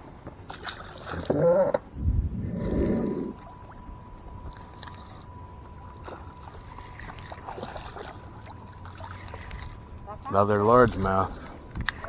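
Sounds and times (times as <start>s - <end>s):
faint steady tone: 0.0s - 12.0s
water lapping against hull: 0.0s - 12.0s.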